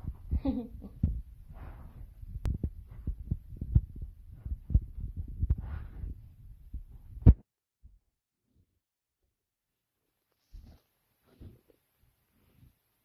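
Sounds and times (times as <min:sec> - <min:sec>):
thumps and rustles on microphone: 0:00.0 - 0:08.0, 0:10.4 - 0:12.9.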